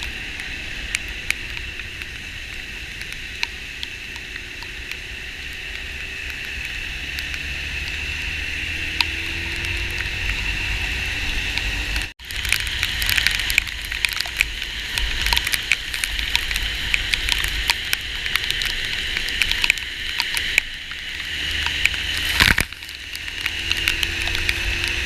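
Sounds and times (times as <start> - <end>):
heavy rain pelting a car: 0.0 - 25.0
road and engine rumble: 0.0 - 25.0.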